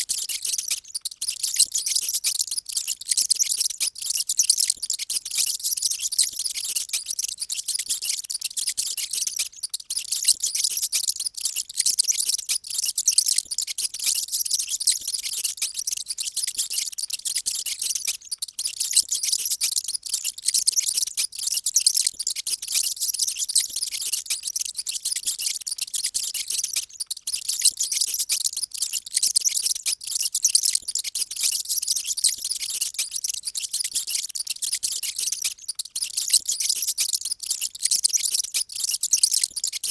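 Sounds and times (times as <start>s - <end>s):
mice squeaking: 0.0s - 39.9s.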